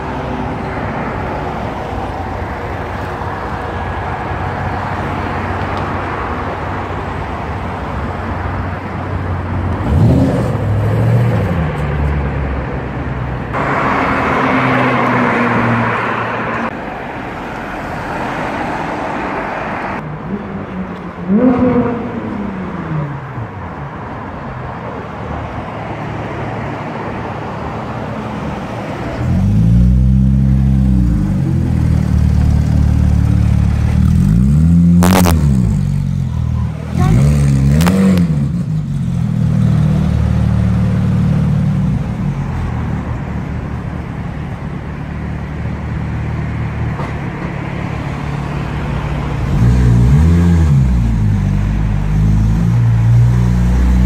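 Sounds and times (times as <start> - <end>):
city traffic: 0.0 - 54.0.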